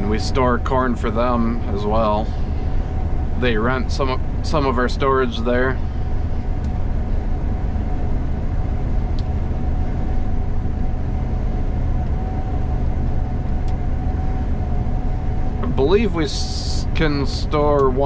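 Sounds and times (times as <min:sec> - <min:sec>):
combine harvester drone: 0:00.0 - 0:18.0
faint steady whine: 0:00.0 - 0:18.0.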